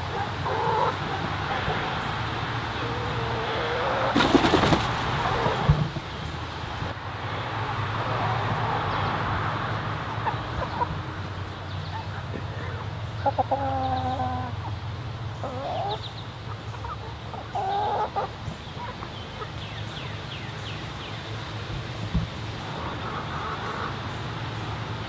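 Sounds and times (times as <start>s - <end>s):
chickens calling: 0.0s - 21.0s, 22.5s - 25.0s.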